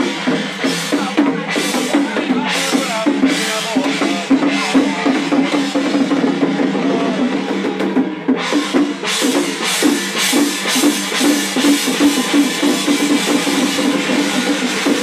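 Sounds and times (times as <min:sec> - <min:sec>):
crashing metal percussion: 0:00.0 - 0:15.0
drums beaten continuously: 0:00.0 - 0:15.0.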